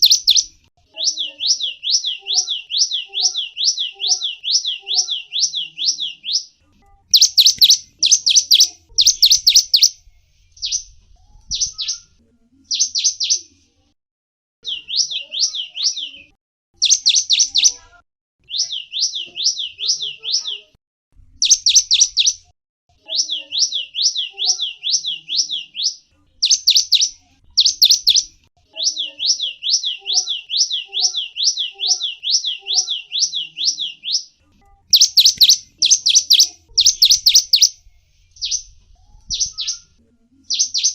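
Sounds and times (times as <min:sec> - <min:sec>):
songbird chirping: 0:00.0 - 0:13.8, 0:14.6 - 0:40.9.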